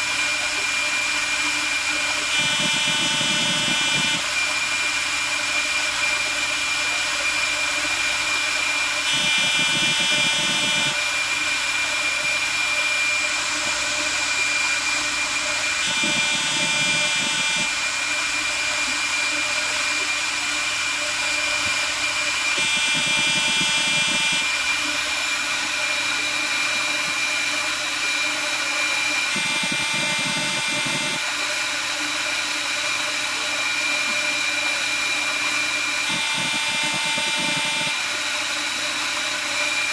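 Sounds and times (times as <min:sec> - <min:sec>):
machine high whine: 0:00.0 - 0:39.9.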